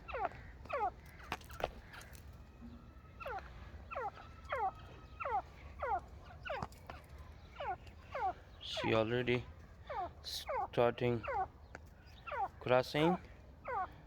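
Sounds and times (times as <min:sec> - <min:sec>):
partridge calling: 0:00.0 - 0:02.2, 0:03.1 - 0:14.0.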